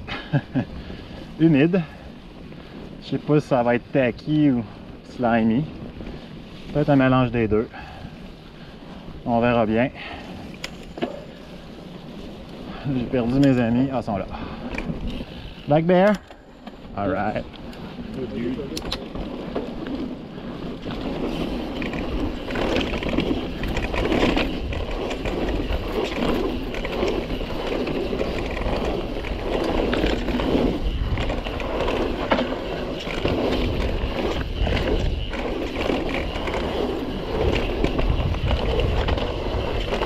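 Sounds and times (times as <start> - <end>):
bike rattling over bumps: 0.0 - 40.0
bike tyres rumbling on dirt: 0.0 - 40.0.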